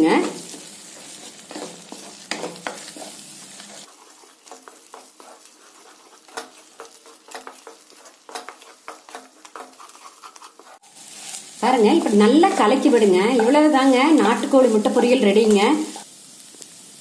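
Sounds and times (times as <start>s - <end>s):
wooden spatula scraping pan: 0.0s - 16.0s
eggs sizzling in frying pan: 0.0s - 17.0s.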